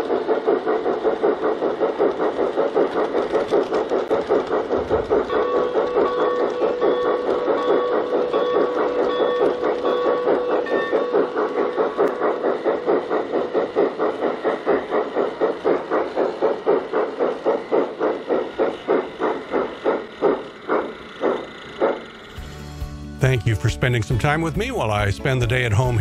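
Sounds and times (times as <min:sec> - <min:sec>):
model steam locomotive chuffing: 0:00.0 - 0:26.0.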